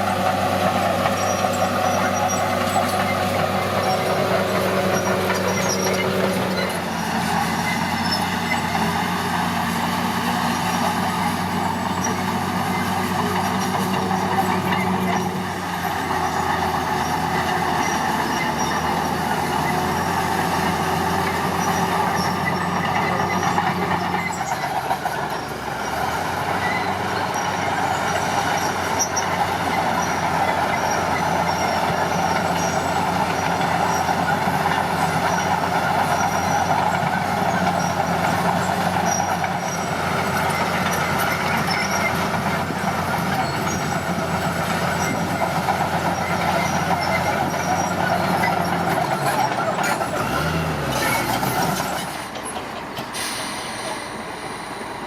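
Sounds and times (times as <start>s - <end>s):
heavy machinery diesel engine: 0.0s - 55.0s.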